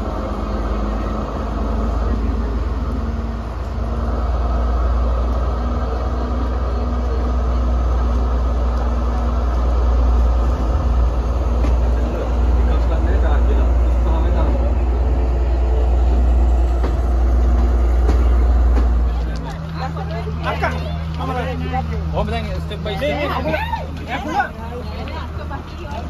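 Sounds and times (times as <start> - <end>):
train carriages rumbling: 0.0 - 26.0.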